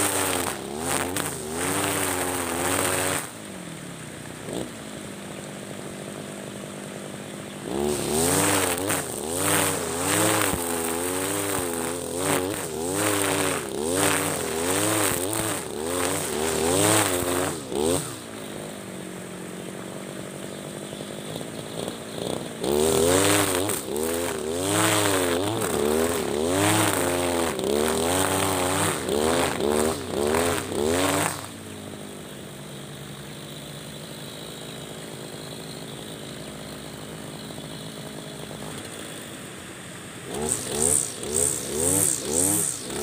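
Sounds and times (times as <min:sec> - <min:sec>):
brush cutter engine revving: 0:00.0 - 0:39.3, 0:40.1 - 0:43.0.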